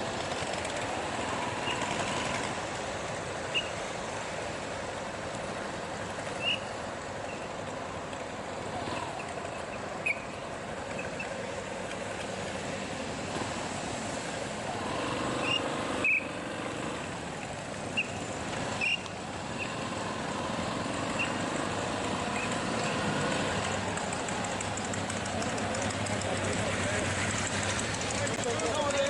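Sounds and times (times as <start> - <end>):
vehicle running noise: 0.0 - 29.0.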